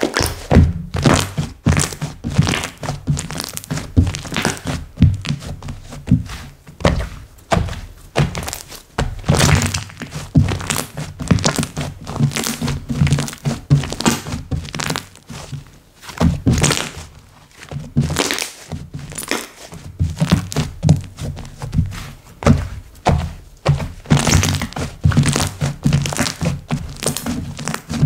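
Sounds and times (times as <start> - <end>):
hands squishing slime: 0.0 - 28.0.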